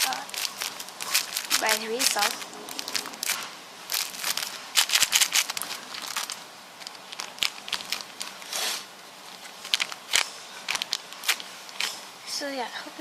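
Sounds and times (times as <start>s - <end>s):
crinkly rustling and crackling: 0.0s - 12.7s.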